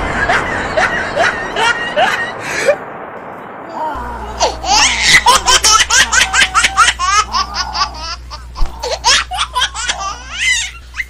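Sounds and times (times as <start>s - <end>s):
high-pitched laughter: 0.0s - 2.8s, 4.3s - 11.0s.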